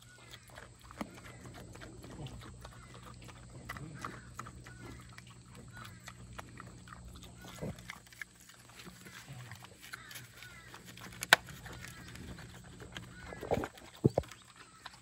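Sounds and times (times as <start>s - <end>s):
pig chewing: 0.0s - 15.0s.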